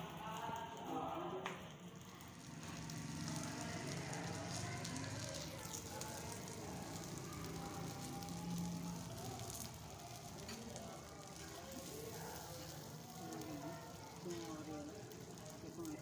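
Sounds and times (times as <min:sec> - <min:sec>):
vegetables sizzling in oil: 0:01.7 - 0:16.0
metal tongs turning food: 0:01.9 - 0:16.0.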